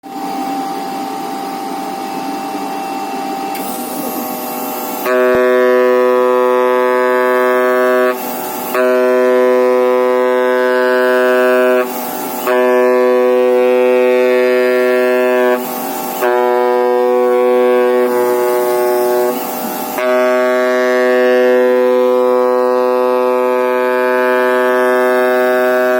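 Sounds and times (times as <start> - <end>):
machine whir: 0.0 - 25.9
cutting knife buzzing: 3.5 - 25.9.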